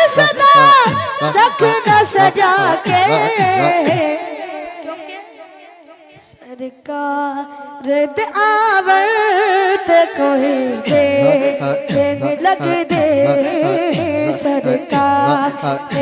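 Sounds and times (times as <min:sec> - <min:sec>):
boy singing into microphone: 0:00.0 - 0:05.4, 0:06.2 - 0:16.0.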